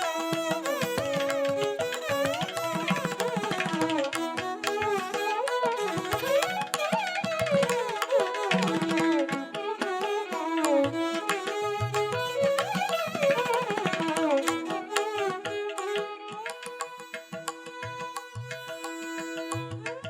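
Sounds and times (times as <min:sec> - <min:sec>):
tabla drumming: 0:00.0 - 0:20.0.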